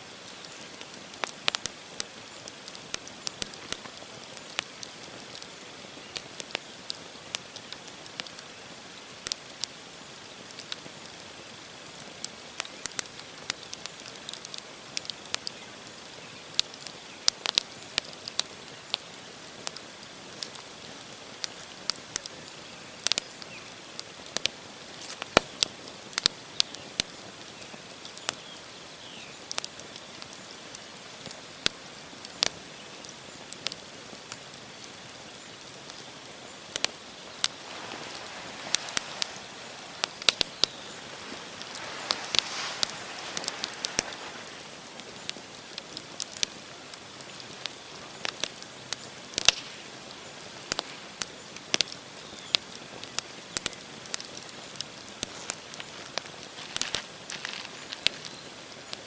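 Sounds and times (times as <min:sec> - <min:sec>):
burning logs crackling: 0:00.0 - 0:59.0
fire hissing: 0:00.1 - 0:59.0.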